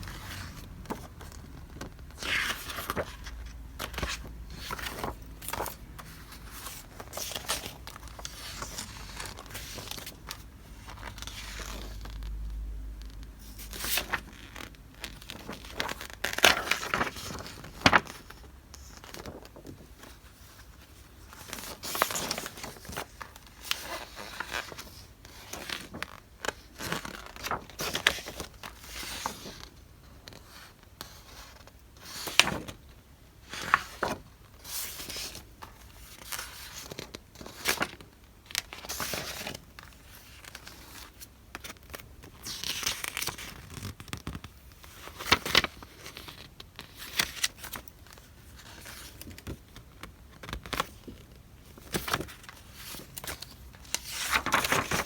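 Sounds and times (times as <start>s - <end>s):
paper packaging rustling: 0.0s - 12.4s, 13.4s - 29.7s, 33.5s - 55.0s.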